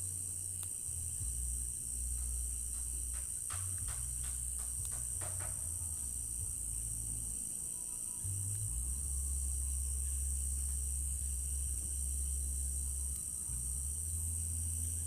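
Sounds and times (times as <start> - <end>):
crickets trilling: 0.0 - 15.0
low hum: 0.0 - 15.0.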